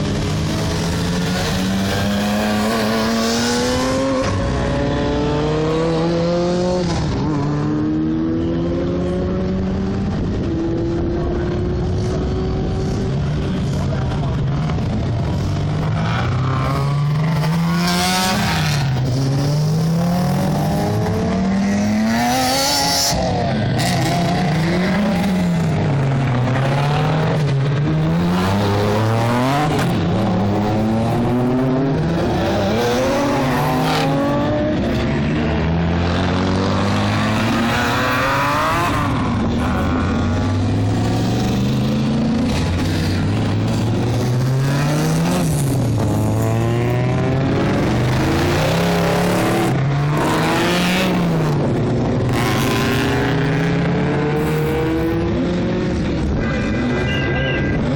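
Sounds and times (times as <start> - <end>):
race car engines revving: 0.0 - 57.9.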